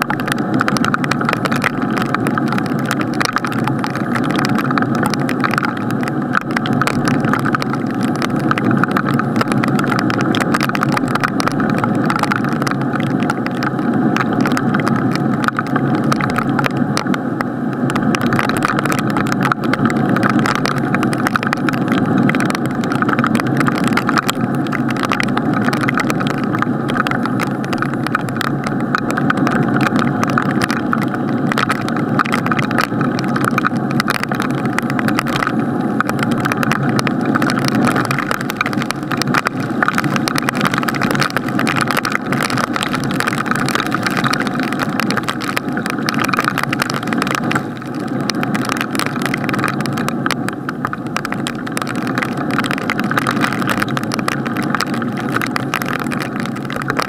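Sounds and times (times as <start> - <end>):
rain pattering on plastic housing: 0.0 - 57.0.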